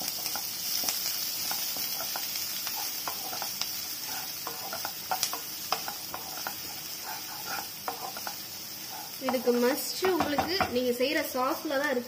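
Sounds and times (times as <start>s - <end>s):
wooden spoon scraping and tapping pan: 0.0s - 10.8s
food sizzling in hot oil: 0.0s - 12.0s.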